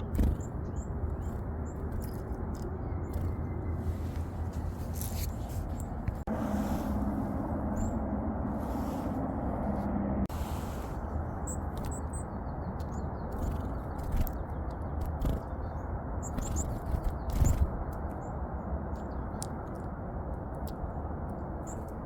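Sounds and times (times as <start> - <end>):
birds giving high chirps: 0.0 - 6.3, 7.4 - 9.0, 10.6 - 22.0
steady low rumble: 0.0 - 22.0.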